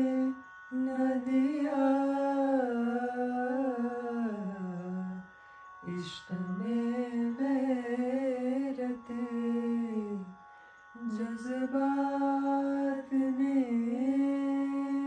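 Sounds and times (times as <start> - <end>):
person singing long notes: 0.0 - 10.4, 11.0 - 15.0
faint steady drone: 0.0 - 15.0.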